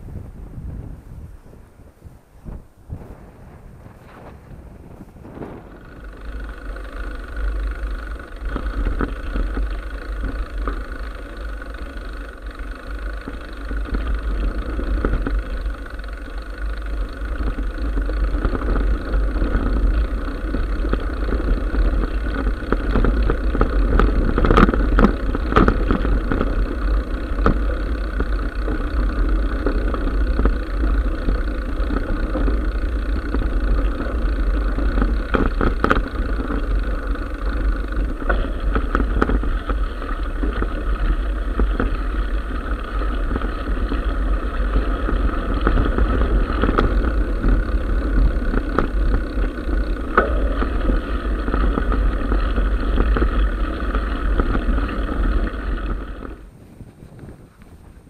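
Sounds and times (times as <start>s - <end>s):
wind on microphone: 0.0s - 12.3s, 13.1s - 58.0s
bike tyres rumbling on gravel: 0.0s - 58.0s
bike knocks and rattles: 4.0s - 58.0s.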